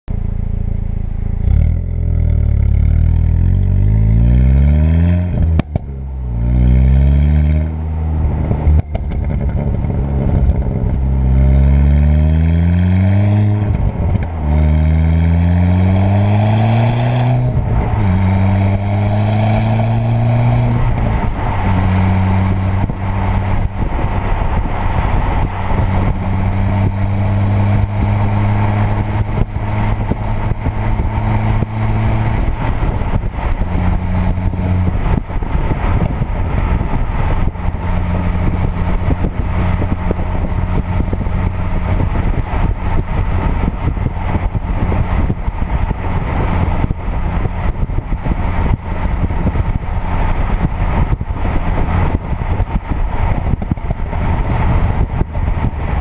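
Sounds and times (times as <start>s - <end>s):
car engine accelerating: 0.1s - 56.0s.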